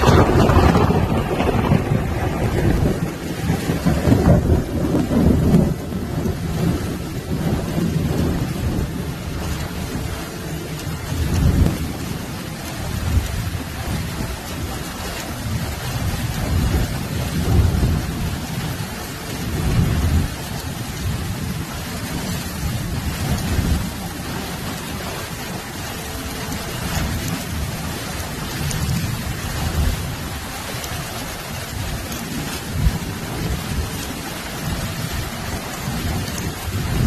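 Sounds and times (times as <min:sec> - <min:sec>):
heavy rain pouring: 0:00.0 - 0:37.0
low thunder rumbling: 0:00.0 - 0:37.0.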